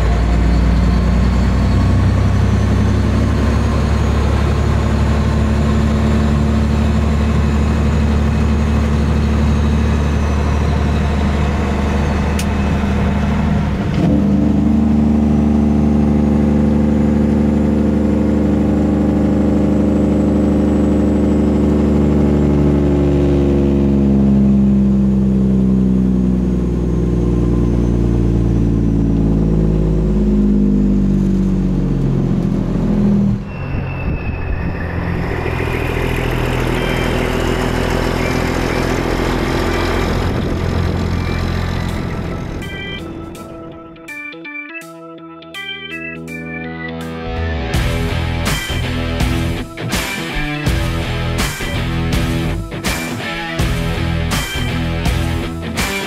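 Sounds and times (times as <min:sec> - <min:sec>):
truck diesel engine from cab: 0:00.0 - 0:44.0, 0:47.3 - 0:56.0.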